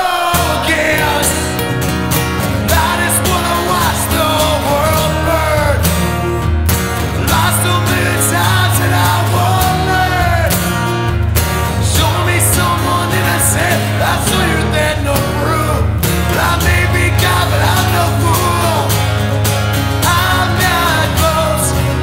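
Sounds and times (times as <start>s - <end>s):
man singing: 0.0s - 1.8s, 2.6s - 6.3s, 7.2s - 11.0s, 11.7s - 22.0s
strummed acoustic guitars: 0.0s - 22.0s.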